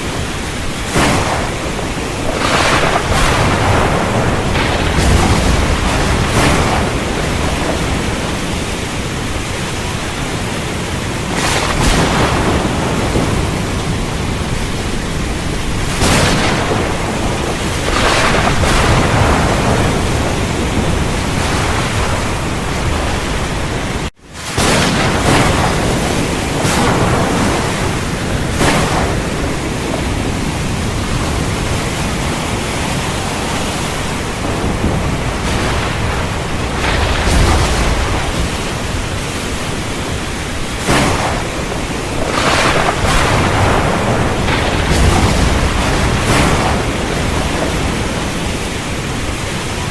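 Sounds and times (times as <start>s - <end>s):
heavy rain falling: 0.0s - 49.9s
thunder cracks and rumbles: 0.0s - 49.9s.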